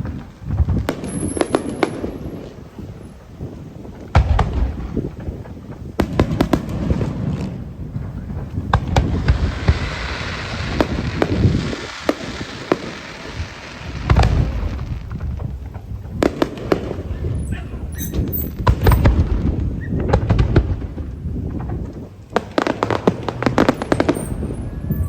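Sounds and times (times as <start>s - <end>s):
fireworks bangs: 0.0s - 25.0s
fireworks crackling: 0.0s - 25.0s
heavy firework boom: 0.0s - 25.0s.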